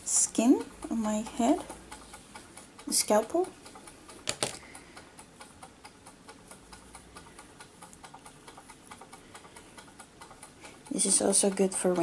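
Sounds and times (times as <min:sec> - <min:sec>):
rapid even ticking: 0:00.1 - 0:12.0.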